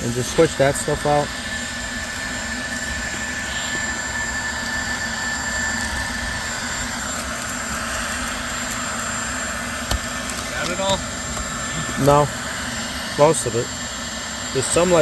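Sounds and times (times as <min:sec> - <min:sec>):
vacuum cleaner motor whining: 0:00.0 - 0:15.0.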